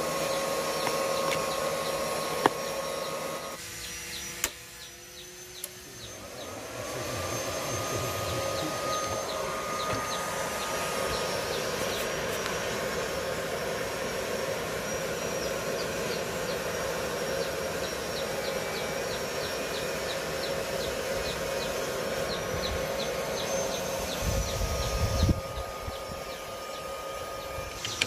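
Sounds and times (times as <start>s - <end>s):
welder cooling fan whirring: 0.0s - 28.0s.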